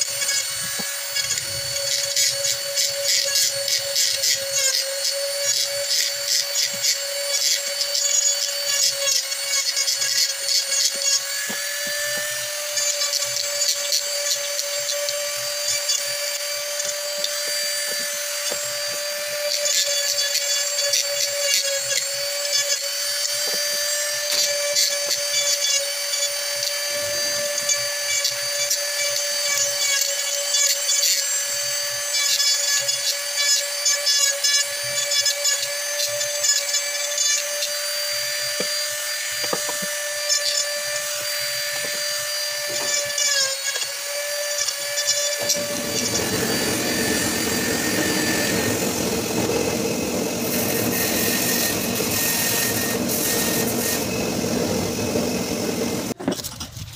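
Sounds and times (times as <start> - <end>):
power tool whining: 0.0 - 56.9
wood rasping against cutter: 0.0 - 56.9.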